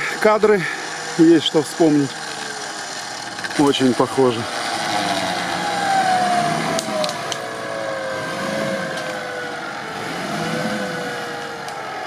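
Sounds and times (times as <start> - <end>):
vehicle engine running under load: 0.0 - 12.0.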